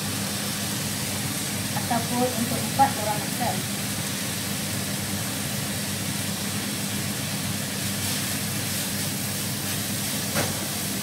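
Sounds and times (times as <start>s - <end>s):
electric cooktop hiss and hum: 0.0s - 11.0s.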